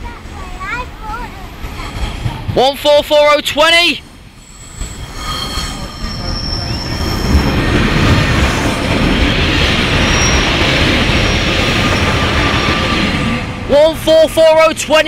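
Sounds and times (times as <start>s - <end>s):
diesel train passing: 0.0s - 15.0s.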